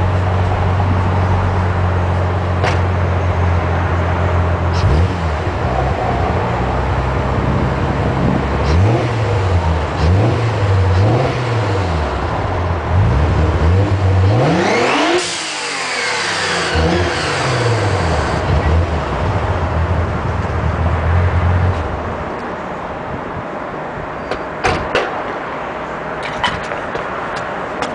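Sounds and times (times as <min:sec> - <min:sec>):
car engine idling and revving: 0:00.0 - 0:27.9.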